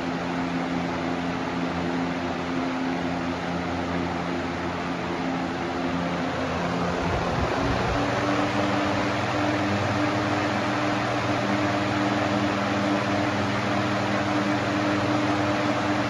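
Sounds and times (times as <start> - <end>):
fan air rushing: 0.0 - 16.0
fan motor hum: 0.0 - 16.0.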